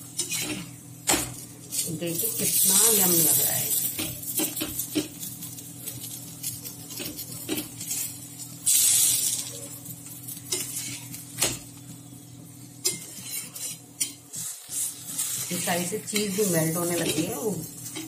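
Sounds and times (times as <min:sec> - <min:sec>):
oil sizzling hiss: 0:00.0 - 0:18.0
steady low hum: 0:00.0 - 0:18.0
spatula scraping on iron griddle: 0:00.1 - 0:00.8, 0:01.7 - 0:09.6, 0:10.2 - 0:11.5, 0:12.8 - 0:18.0.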